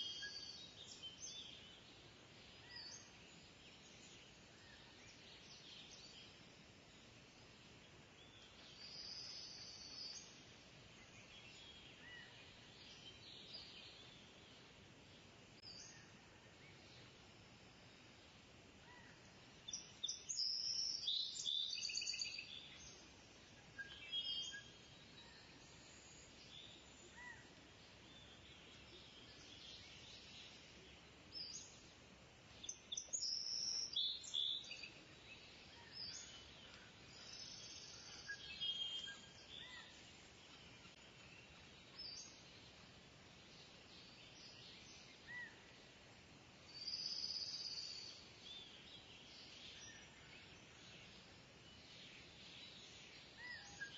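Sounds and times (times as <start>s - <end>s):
birds chirping: 0.0s - 46.0s
faint outdoor background: 0.0s - 53.9s.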